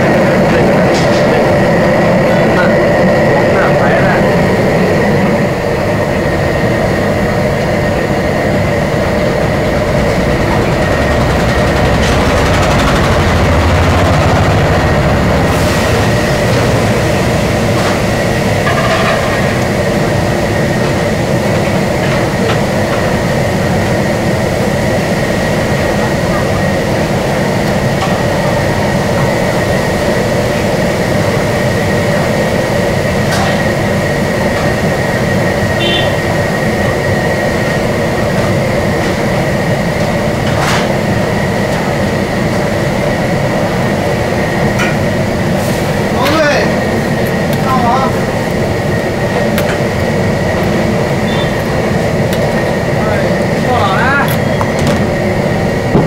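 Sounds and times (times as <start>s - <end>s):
broth boiling hard: 0.0s - 56.0s
gas burner roaring: 0.0s - 56.0s
thin steady whine: 0.0s - 56.0s.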